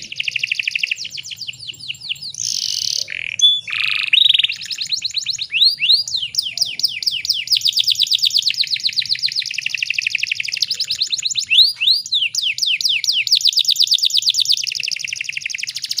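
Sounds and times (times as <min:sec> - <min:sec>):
canary singing trills: 0:00.0 - 0:16.0.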